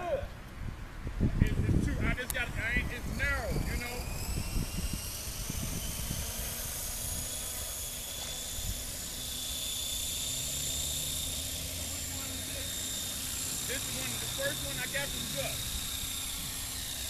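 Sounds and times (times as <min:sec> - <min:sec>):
model helicopter motor whine: 0:01.4 - 0:17.0.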